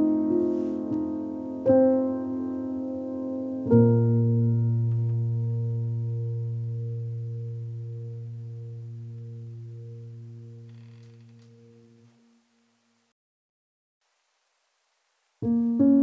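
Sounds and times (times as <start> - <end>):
soft piano chords: 0.0 - 12.4, 15.4 - 16.0.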